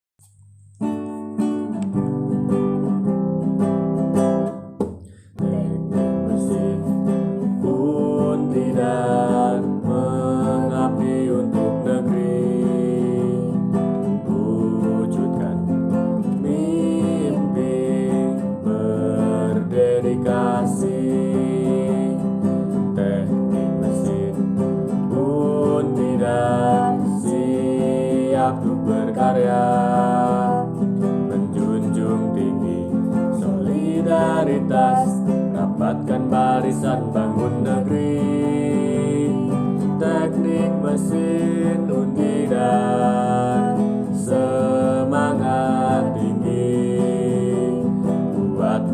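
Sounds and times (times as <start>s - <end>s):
acoustic guitar strumming: 0.2s - 48.9s
person singing: 4.8s - 48.9s.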